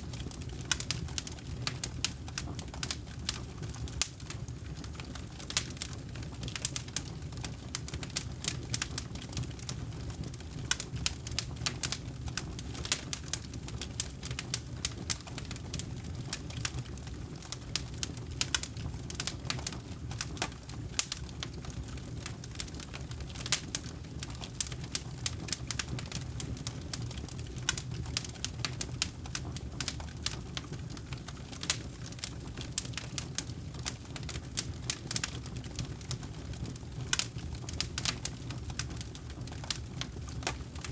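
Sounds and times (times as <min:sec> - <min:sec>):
campfire crackling and popping: 0:00.0 - 0:40.9
low rumble of burning: 0:00.0 - 0:40.9.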